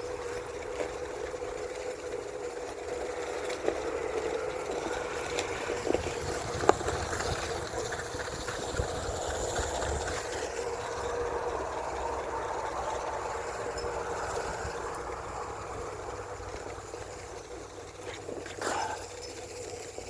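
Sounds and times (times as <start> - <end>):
wheel rolling over dirt: 0.0 - 20.0.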